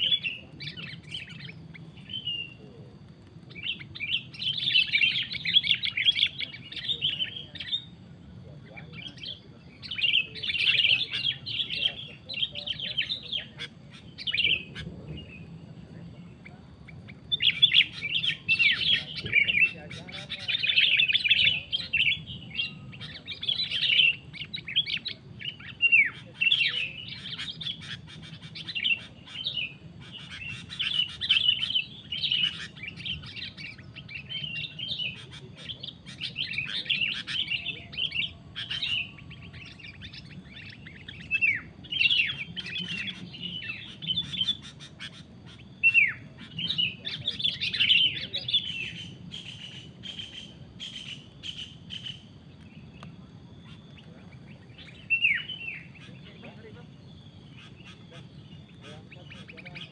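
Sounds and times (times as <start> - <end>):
bulbuls chirping: 0.0 - 59.9.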